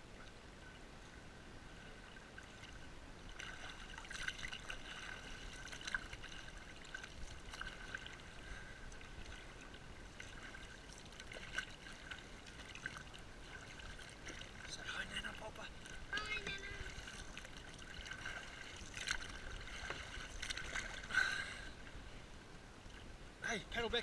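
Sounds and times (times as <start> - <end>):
water trickling and lapping: 0.0 - 24.0
paddle splashing: 1.6 - 22.2.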